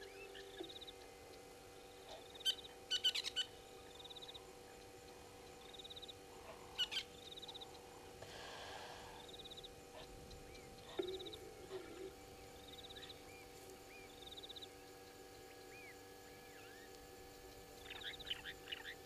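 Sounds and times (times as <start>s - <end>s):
faint steady hum: 0.0s - 19.0s
soft hiss: 0.0s - 19.0s.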